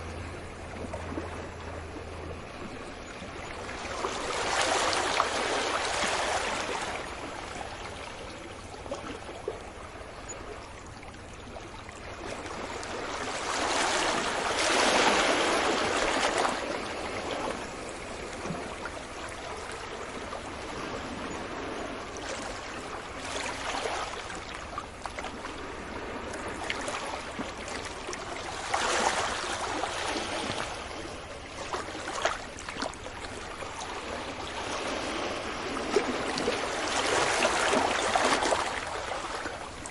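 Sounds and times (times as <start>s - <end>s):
sea waves breaking on beach: 0.0s - 10.0s, 12.0s - 39.9s.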